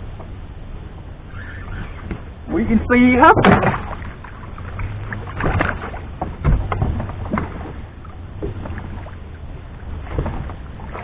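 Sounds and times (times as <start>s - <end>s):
knocks and thuds on boat: 0.0s - 11.0s
low steady hum: 0.0s - 11.0s.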